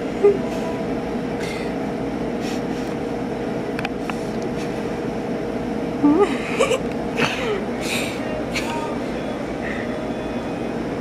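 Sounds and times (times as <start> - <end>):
mechanical room hum: 0.0 - 11.0.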